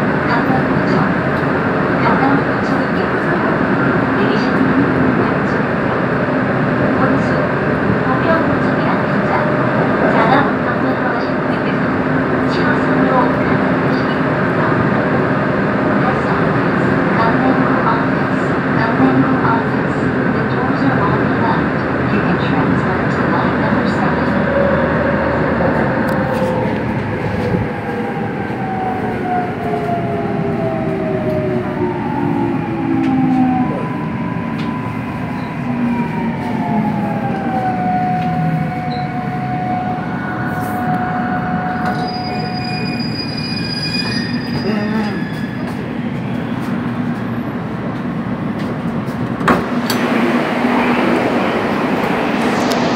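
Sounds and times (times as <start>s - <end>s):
wheels rumbling on rail: 0.0s - 52.9s.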